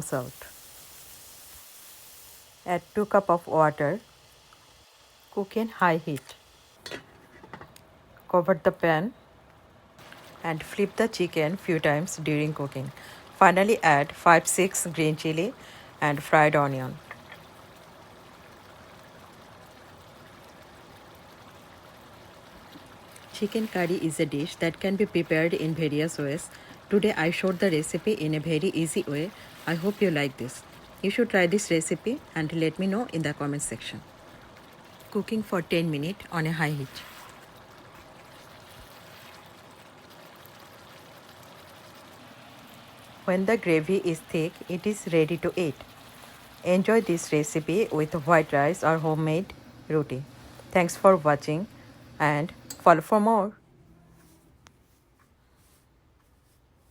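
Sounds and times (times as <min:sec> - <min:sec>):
curry simmering hiss: 0:00.0 - 0:06.8, 0:10.0 - 0:52.7.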